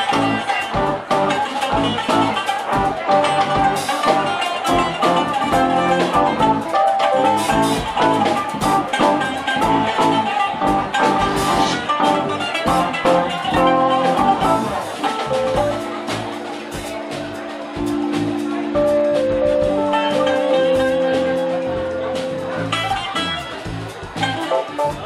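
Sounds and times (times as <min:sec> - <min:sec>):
electric guitar: 0:00.0 - 0:23.6
bass guitar: 0:00.0 - 0:25.0
drum kit: 0:00.0 - 0:25.0.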